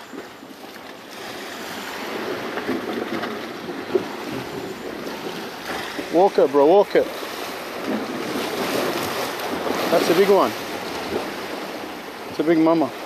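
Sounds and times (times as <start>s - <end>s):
waves washing against rocks: 0.0s - 13.0s.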